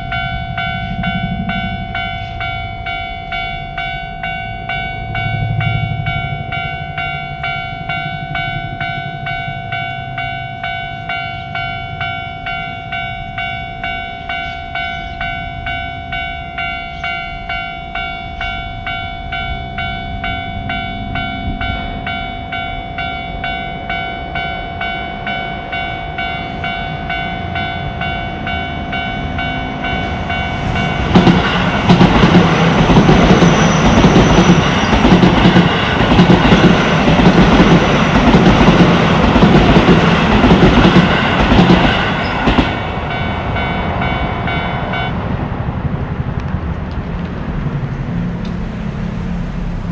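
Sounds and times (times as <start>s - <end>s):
level-crossing warning bell: 0.0s - 46.4s
train wheels clacking on rails: 0.0s - 49.0s
train passing: 0.0s - 49.9s.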